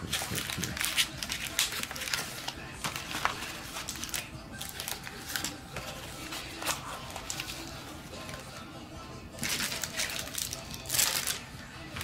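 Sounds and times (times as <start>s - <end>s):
plastic wrapping crinkling: 0.0s - 8.6s, 9.4s - 12.0s.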